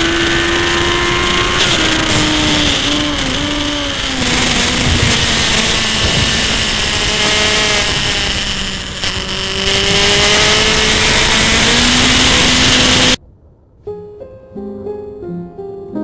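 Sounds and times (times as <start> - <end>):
motorcycle engine running hard: 0.0 - 13.2
wind rush on microphone: 0.0 - 14.0.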